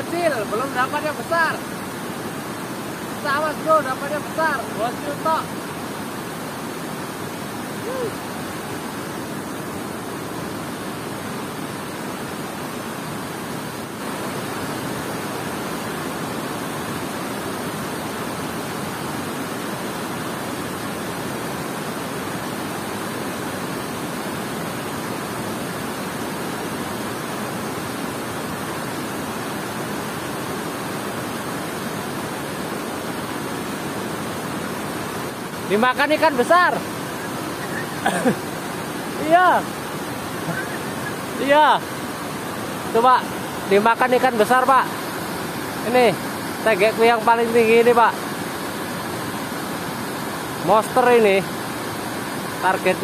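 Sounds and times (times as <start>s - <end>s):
water rushing over spillway: 0.0s - 53.0s.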